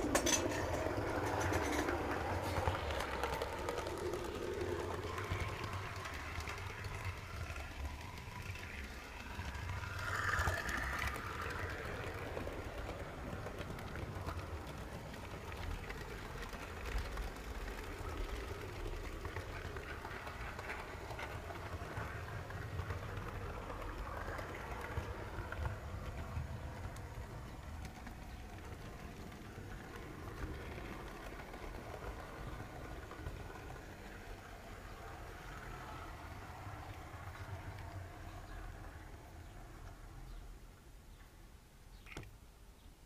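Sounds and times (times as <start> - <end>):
model train wheels rumbling: 0.0 - 42.1.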